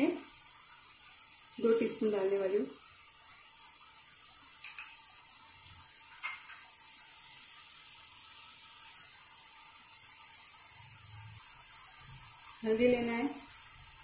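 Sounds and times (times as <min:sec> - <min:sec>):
gravy sizzling and bubbling: 0:00.0 - 0:14.0.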